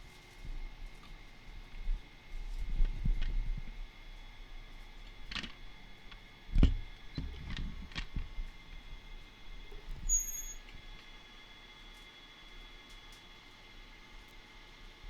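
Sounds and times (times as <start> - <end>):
faint high electronic whine: 1.8 - 14.2.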